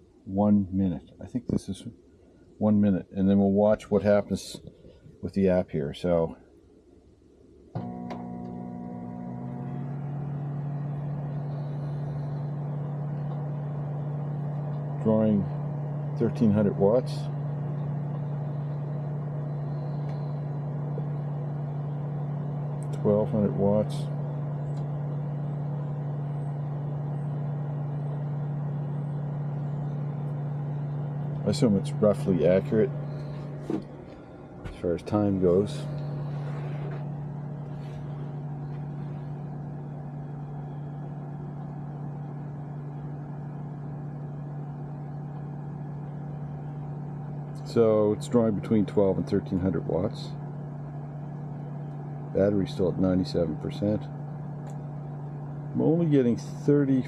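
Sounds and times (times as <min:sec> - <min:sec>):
microwave oven humming: 0:07.5 - 0:57.0.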